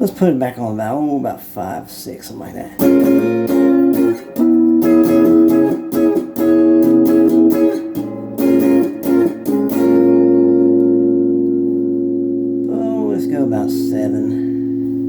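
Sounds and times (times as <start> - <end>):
electric guitar strummed chords: 2.8 - 15.0.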